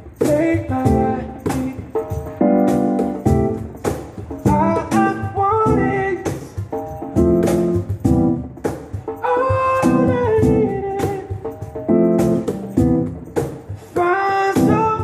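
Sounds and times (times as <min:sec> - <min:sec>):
electric keyboard melody: 0:00.0 - 0:15.0.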